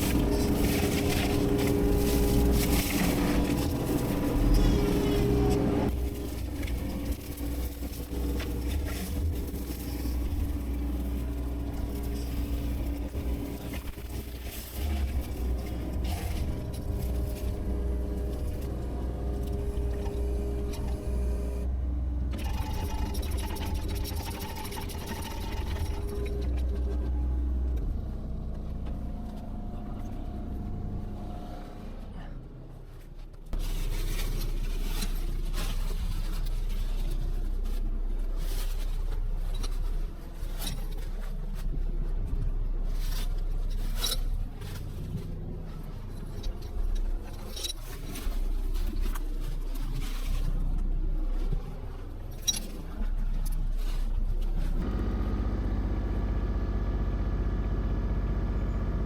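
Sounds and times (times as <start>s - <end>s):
excavator engine rumbling: 0.0s - 59.0s.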